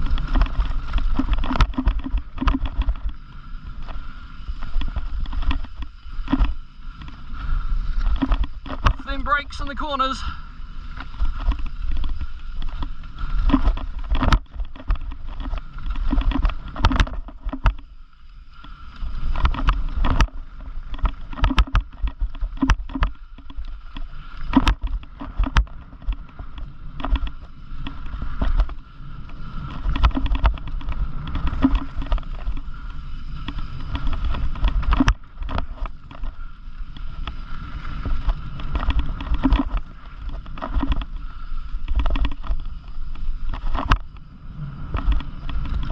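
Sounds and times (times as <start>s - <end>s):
bike knocking and rattling over bumps: 0.0s - 45.9s
wind rumbling on microphone: 0.0s - 45.9s.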